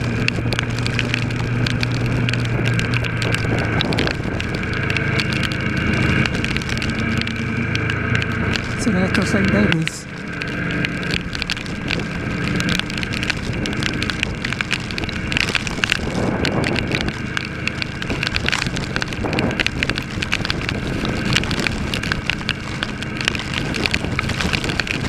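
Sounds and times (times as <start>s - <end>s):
motorcycle engine running: 0.0s - 25.0s
rain ticking: 0.0s - 25.0s
wind noise on microphone: 0.0s - 25.0s.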